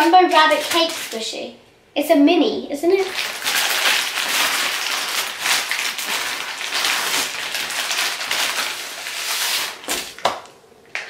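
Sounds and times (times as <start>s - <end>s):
plastic packaging rustling: 0.0s - 1.4s, 2.9s - 10.5s.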